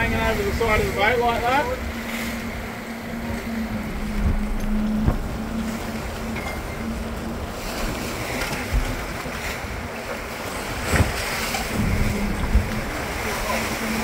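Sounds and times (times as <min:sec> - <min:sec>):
boat engine hum: 0:00.0 - 0:14.0
water churning: 0:00.0 - 0:14.0
wind on microphone: 0:00.0 - 0:14.0.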